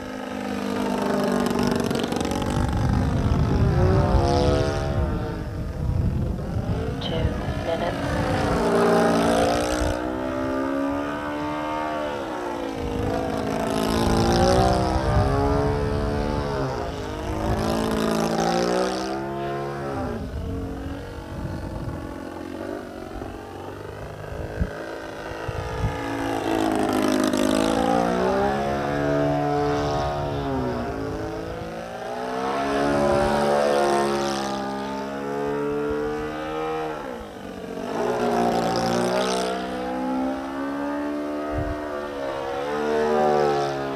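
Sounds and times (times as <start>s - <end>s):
model plane propeller buzzing: 0.0s - 40.5s.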